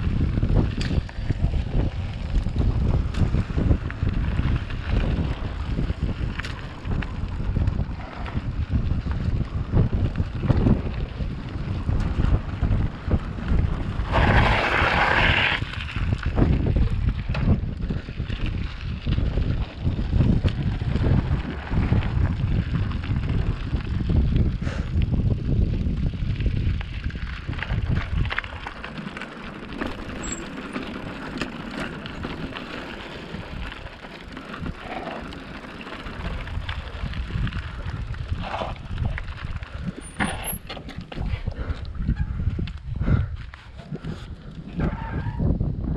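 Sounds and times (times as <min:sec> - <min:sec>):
bike jolting on stony road: 0:00.0 - 0:45.9
wind buffeting microphone: 0:00.0 - 0:45.9.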